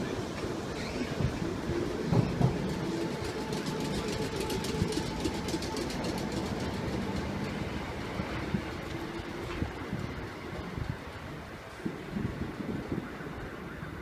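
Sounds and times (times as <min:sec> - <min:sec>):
train wheels rumbling: 0:00.0 - 0:13.7.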